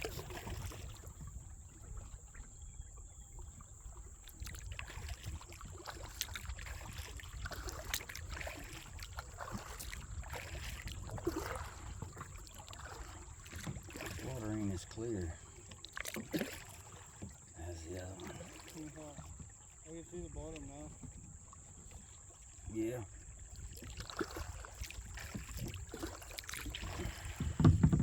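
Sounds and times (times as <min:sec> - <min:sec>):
paddle splashing in water: 0:00.0 - 0:28.0
water dripping off paddle: 0:00.0 - 0:28.0.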